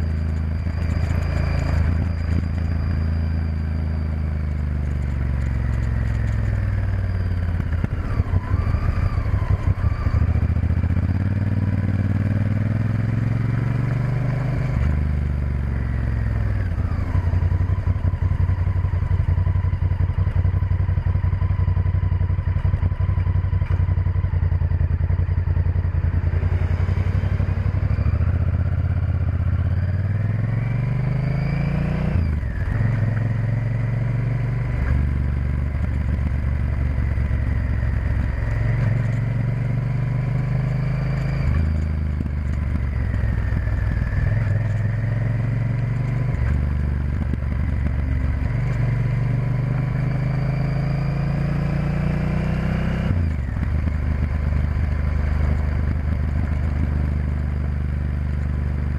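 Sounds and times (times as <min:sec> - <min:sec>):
motorcycle engine revving: 0:00.0 - 0:58.9
road and wind noise: 0:00.0 - 0:58.9.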